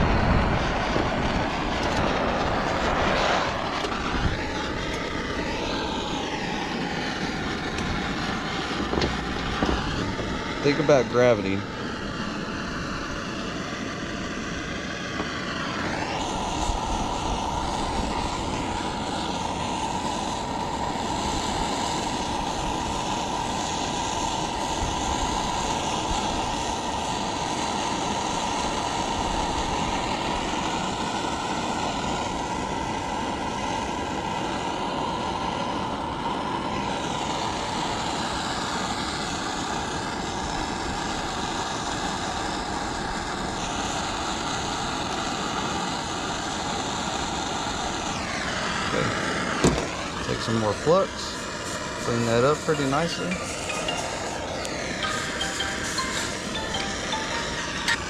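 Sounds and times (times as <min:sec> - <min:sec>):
gas torch flame hissing: 0:00.0 - 0:58.0.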